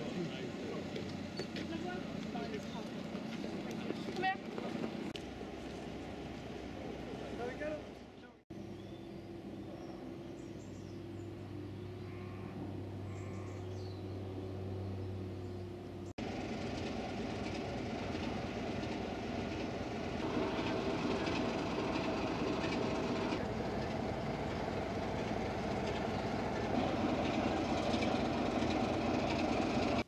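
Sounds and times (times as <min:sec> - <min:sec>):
diesel locomotive engine idling: 0:00.0 - 0:30.0.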